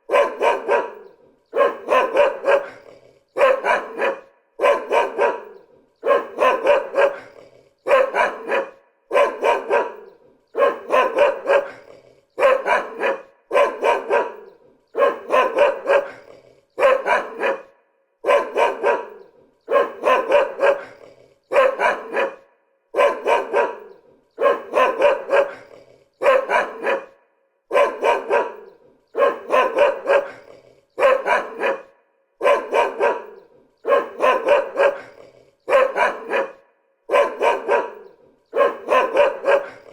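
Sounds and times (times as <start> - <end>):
dog barking: 0.0 - 39.9.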